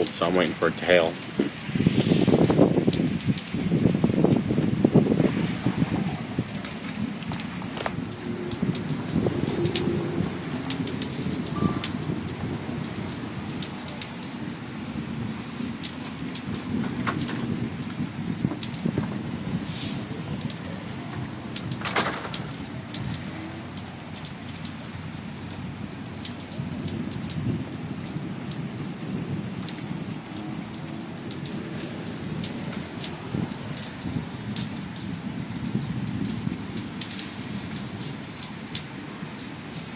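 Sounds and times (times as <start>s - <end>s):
heavy rain rushing: 0.0s - 39.9s
raindrops ticking close by: 0.0s - 39.9s.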